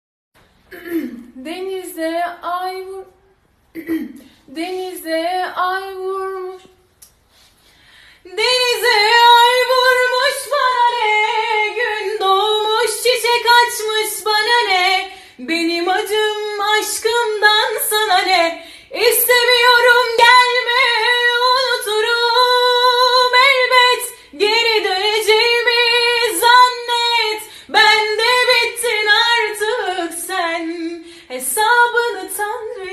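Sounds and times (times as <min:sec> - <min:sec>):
woman singing unaccompanied: 0:01.3 - 0:03.2, 0:04.5 - 0:06.8, 0:08.3 - 0:32.9.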